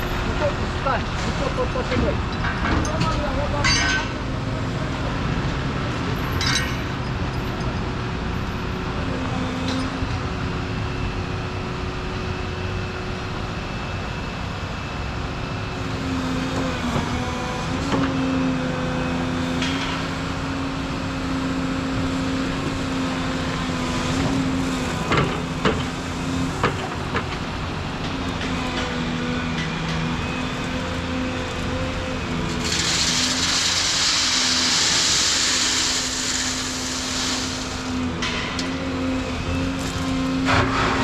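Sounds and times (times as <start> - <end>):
excavator diesel engine: 0.0 - 41.0
hydraulic whine: 3.6 - 41.0.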